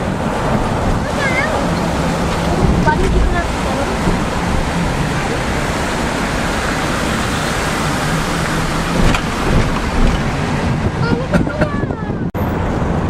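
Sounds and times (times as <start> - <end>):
vehicle road and wind noise: 0.0 - 13.0
wind buffeting microphone: 0.0 - 13.0.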